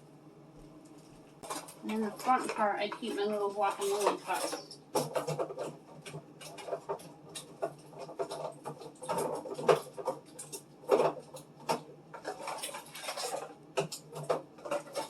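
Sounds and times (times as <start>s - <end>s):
plastic containers clicking and tapping: 1.4s - 15.0s.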